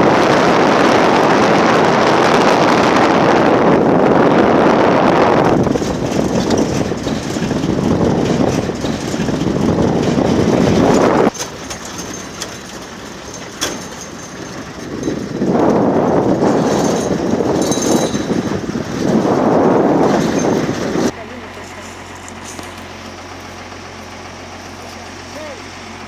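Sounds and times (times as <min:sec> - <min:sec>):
wind buffeting microphone: 0:00.0 - 0:24.8
vehicle running on dirt road: 0:00.0 - 0:26.0.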